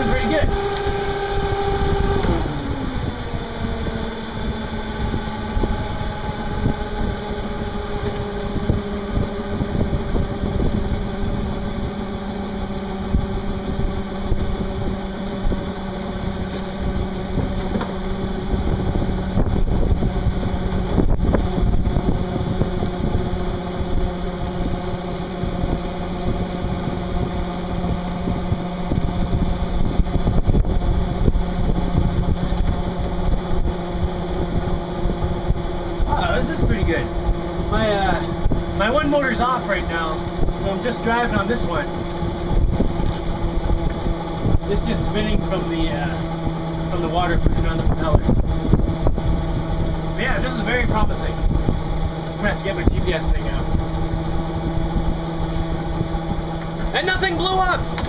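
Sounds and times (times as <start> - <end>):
electric boat motor whine: 0.0 - 58.0
wind: 0.0 - 58.0.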